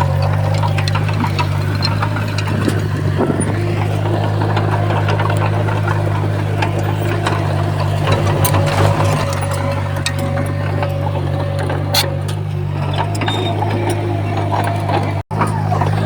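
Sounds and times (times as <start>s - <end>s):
bulldozer diesel engine: 0.0s - 16.0s
clicks and clanks: 0.0s - 16.0s.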